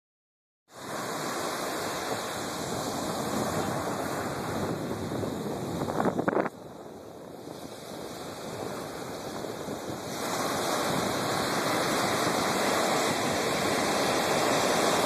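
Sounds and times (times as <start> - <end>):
waves breaking on beach: 0.7 - 15.0
wind on microphone: 0.8 - 15.0.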